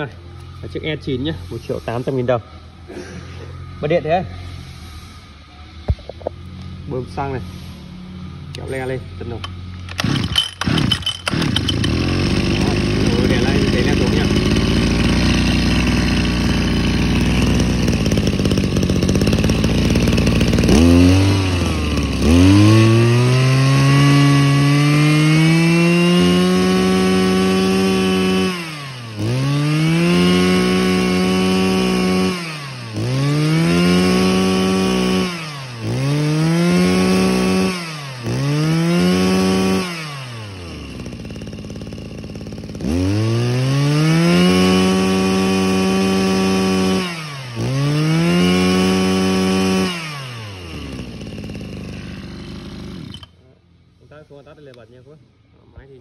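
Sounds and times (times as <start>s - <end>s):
brush cutter engine revving: 0.0s - 54.9s.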